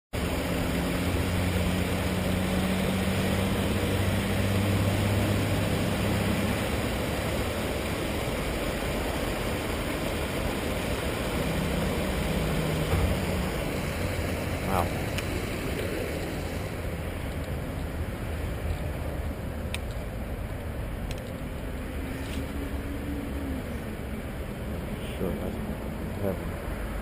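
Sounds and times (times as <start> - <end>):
low droning hum: 0.2 - 27.0
water rushing over weir: 0.2 - 27.0.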